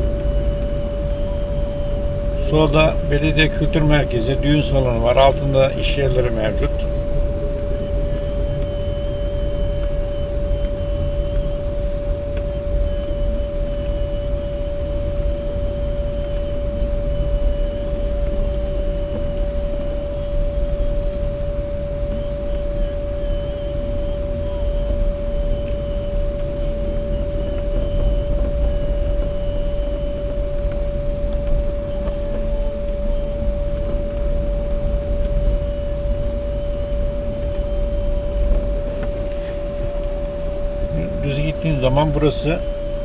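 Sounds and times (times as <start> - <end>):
car rumble: 0.0 - 43.0
constant single-pitched whine: 0.0 - 43.0.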